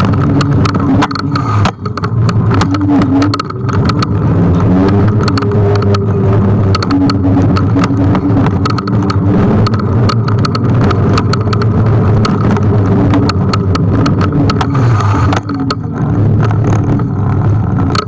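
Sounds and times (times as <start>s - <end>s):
road and wind rumble: 0.0s - 18.0s
scooter rattling clicks: 0.0s - 18.0s
steady hum: 0.0s - 18.0s.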